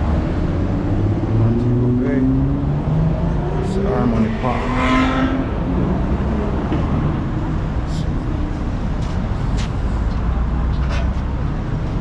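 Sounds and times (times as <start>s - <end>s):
road traffic rumble: 0.0s - 12.0s
vehicles passing: 0.0s - 12.0s.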